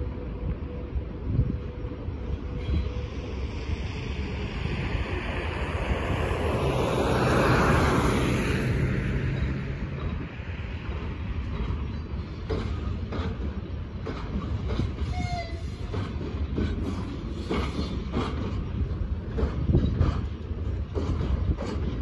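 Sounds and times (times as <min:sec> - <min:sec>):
train passing with low rumble: 0:00.0 - 0:22.0.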